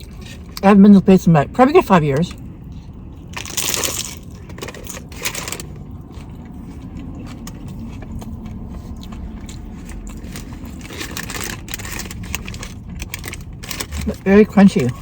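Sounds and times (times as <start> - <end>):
steady low hum: 0.0 - 15.0
crunchy taco chewing: 2.2 - 15.0.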